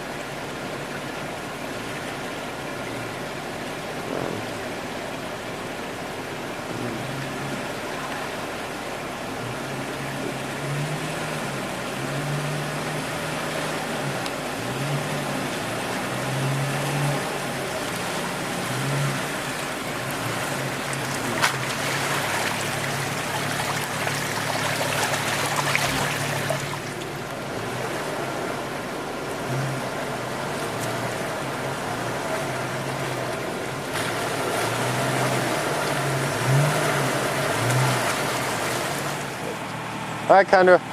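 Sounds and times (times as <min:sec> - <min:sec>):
car engine running unevenly: 0:00.0 - 0:40.9
creek water rushing: 0:00.0 - 0:40.9.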